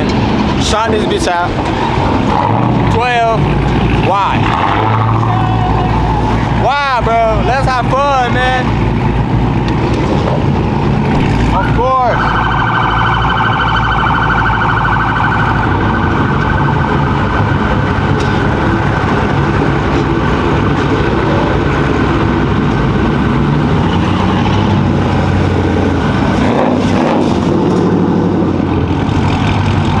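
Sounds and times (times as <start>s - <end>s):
police siren warbling: 0.0s - 7.0s, 9.7s - 26.9s
car engines rumbling: 0.0s - 30.0s.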